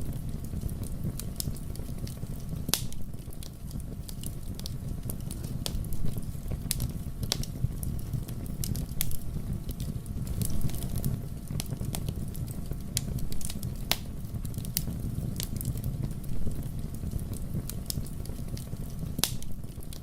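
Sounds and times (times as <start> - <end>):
burning wood crackling and popping: 0.0 - 20.0
fire flames rumbling: 0.0 - 20.0.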